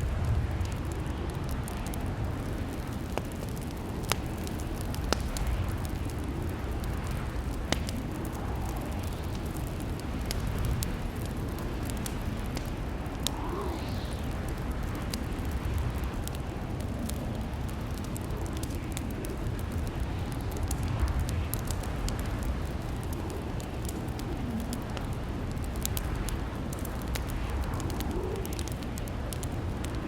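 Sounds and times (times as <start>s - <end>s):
fire popping and snapping: 0.0s - 30.0s
flames rumbling: 0.0s - 30.0s.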